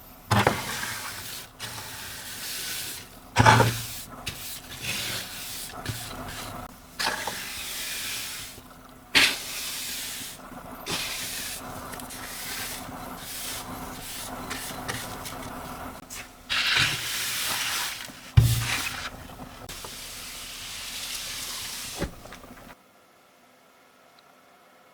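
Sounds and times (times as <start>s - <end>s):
hissing air bursts: 0.8s - 22.7s.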